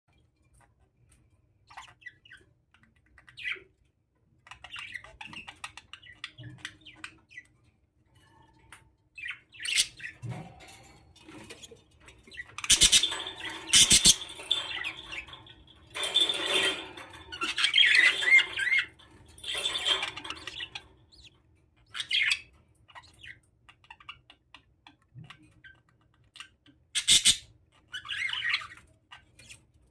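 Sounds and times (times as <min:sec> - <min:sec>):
budgerigars chirping and squawking: 0:01.6 - 0:03.8, 0:04.4 - 0:07.7, 0:08.3 - 0:29.9.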